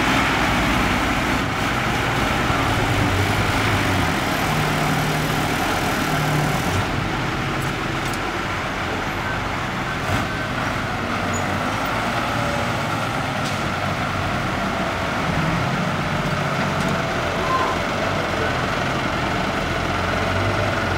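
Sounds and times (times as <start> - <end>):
truck engine running: 0.0 - 20.9.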